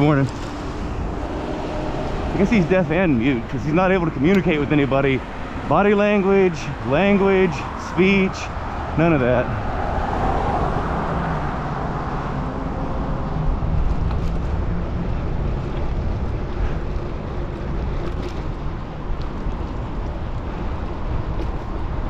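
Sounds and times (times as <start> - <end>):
bicycle tyres on wet road: 0.0 - 22.0
wind noise: 0.0 - 22.0.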